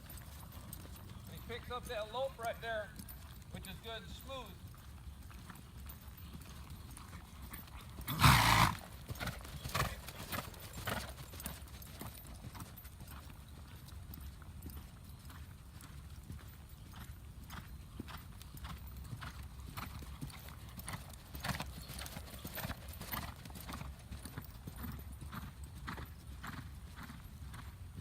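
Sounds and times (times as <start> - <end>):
horse hoofbeats at a lope: 0.0 - 28.0.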